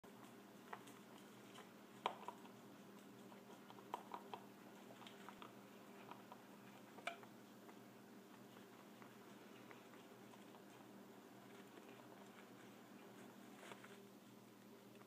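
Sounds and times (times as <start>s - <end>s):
faint steady hum: 0.0s - 15.0s
rabbit chewing crunchily: 0.0s - 15.0s.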